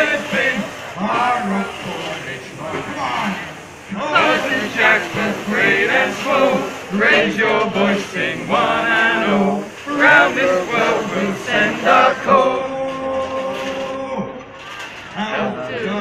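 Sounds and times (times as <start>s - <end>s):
men singing a chant-like song: 0.0s - 14.4s.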